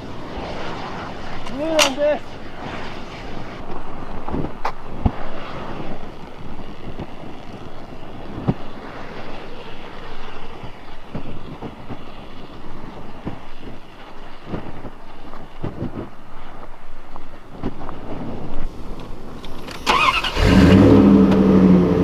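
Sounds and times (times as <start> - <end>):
fire burning: 0.0 - 21.1.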